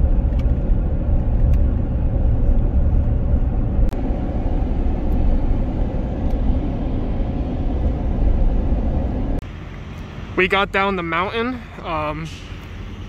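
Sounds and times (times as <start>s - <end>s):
tyres and engine rumble: 0.0s - 13.0s.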